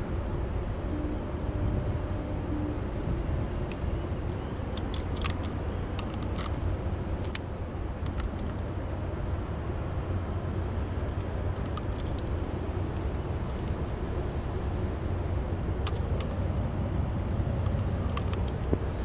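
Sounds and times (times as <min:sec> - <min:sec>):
city traffic rumble: 0:00.0 - 0:19.0
wind: 0:00.0 - 0:19.0.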